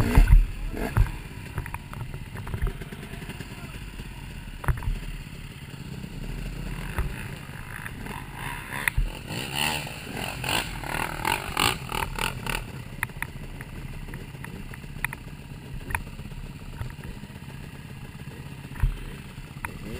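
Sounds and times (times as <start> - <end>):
off-road motorcycle engine: 0.0 - 19.9.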